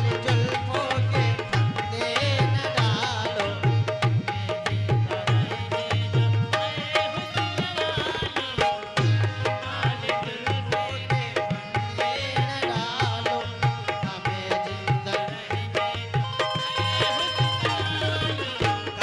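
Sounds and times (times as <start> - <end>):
harmonium playing chords and melody: 0.0 - 19.0.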